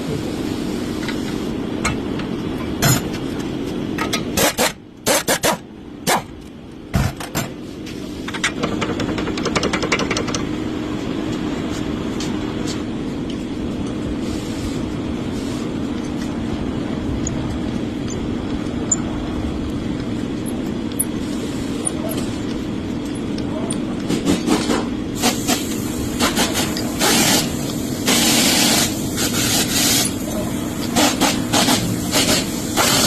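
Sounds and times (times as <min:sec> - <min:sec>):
car road and engine drone: 0:00.0 - 0:33.0.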